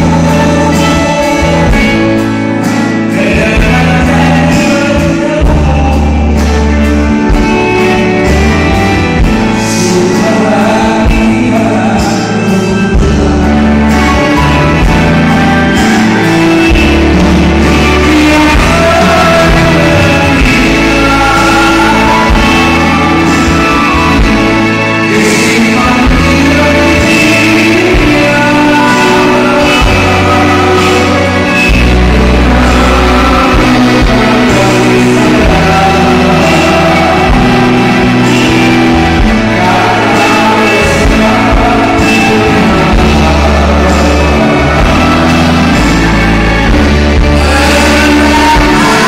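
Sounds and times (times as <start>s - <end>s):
live band playing: 0.0s - 49.0s
man singing: 0.0s - 49.0s
steady bass notes: 0.0s - 49.0s.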